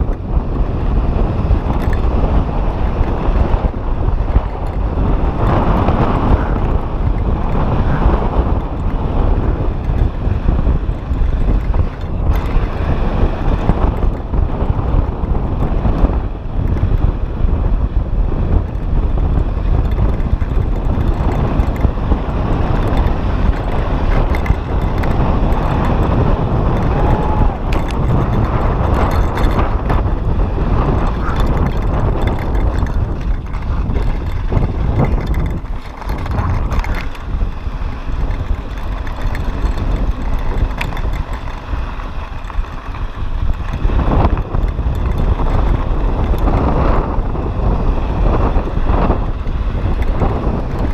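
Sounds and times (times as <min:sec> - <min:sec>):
tyres running over loose dirt: 0:00.0 - 0:17.2, 0:18.5 - 0:50.9
wind buffeting microphone: 0:00.0 - 0:50.9.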